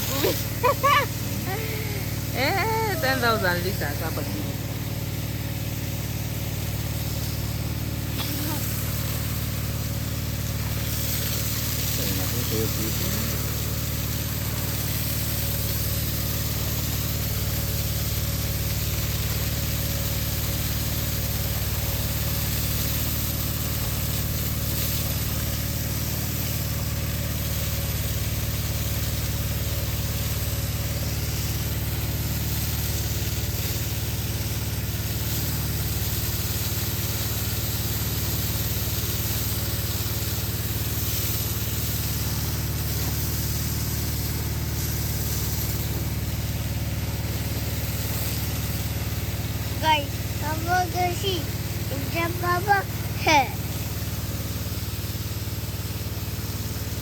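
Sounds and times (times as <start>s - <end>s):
water pump humming: 0.0s - 57.0s
water rushing through pipe: 0.0s - 57.0s.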